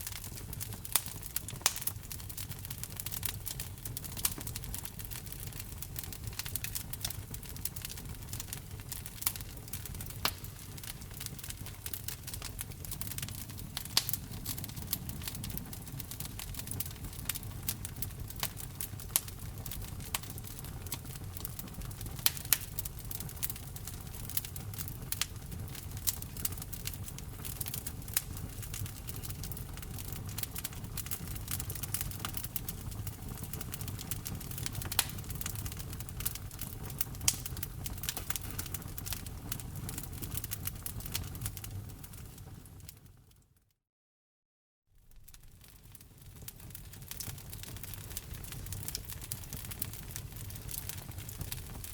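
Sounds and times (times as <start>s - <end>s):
sharp pops from burning logs: 0.0s - 42.4s, 45.2s - 51.9s
low fire rumble: 0.0s - 43.3s, 45.0s - 51.9s
wood fire crackling: 0.0s - 43.4s, 45.0s - 51.9s.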